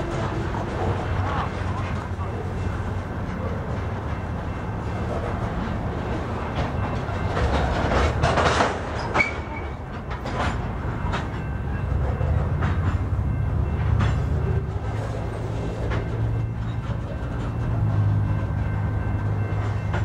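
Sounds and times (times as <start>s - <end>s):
freight train wheels rumbling: 0.0s - 20.0s
wheels clacking over rail: 0.0s - 20.0s.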